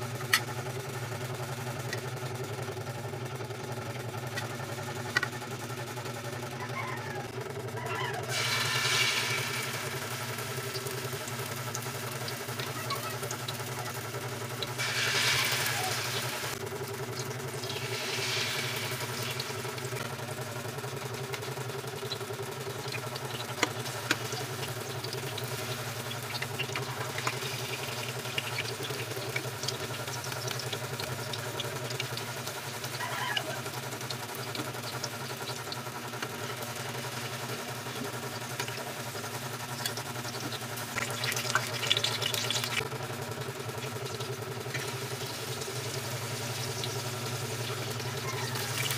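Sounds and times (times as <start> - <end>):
food frying in hot oil: 0.0 - 48.9
low mechanical hum: 0.0 - 48.9.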